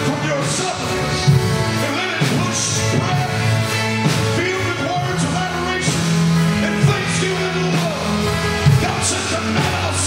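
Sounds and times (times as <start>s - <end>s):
drum kit: 0.0s - 10.0s
man singing: 0.0s - 10.0s
rock band playing: 0.0s - 10.0s.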